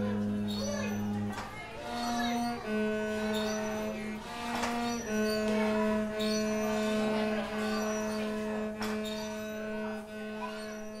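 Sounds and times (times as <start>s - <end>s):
cello bowed notes: 0.0s - 11.0s.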